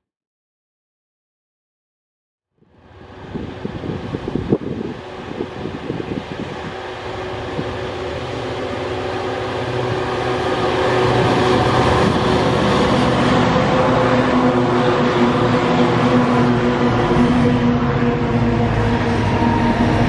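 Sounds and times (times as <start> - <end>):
diesel locomotives droning: 2.6 - 20.0.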